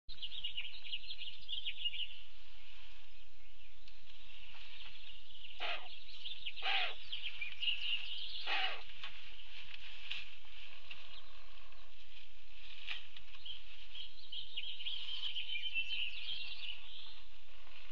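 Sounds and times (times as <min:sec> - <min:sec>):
small birds chirping and singing: 0:00.1 - 0:17.9.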